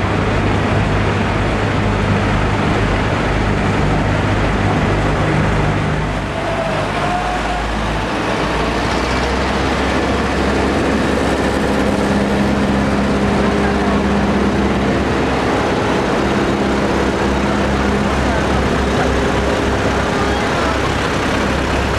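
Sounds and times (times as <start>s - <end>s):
combine harvester diesel engine: 0.0s - 21.9s.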